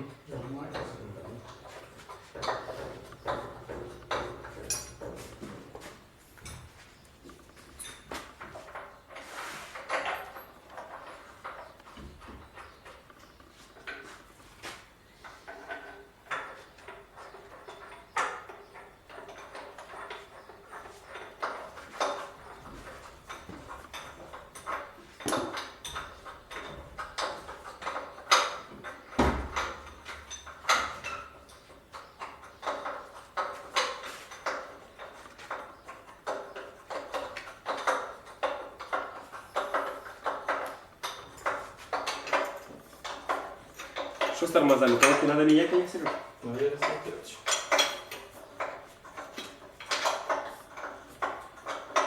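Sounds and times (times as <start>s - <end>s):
hand tools clinking on metal: 0.4s - 5.5s, 15.5s - 52.0s.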